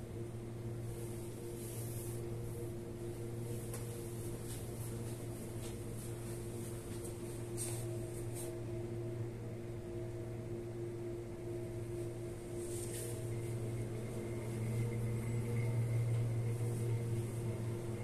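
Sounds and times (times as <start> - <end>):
mechanical hum with held tones: 0.0 - 18.0.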